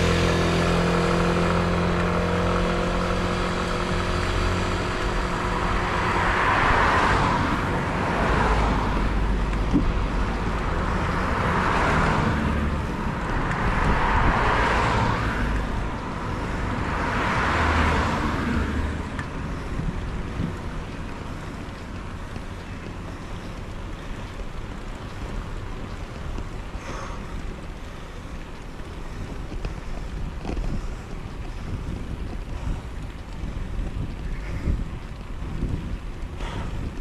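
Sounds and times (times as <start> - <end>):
tyre and road noise: 0.0 - 37.0
wind rushing over microphone: 0.0 - 37.0.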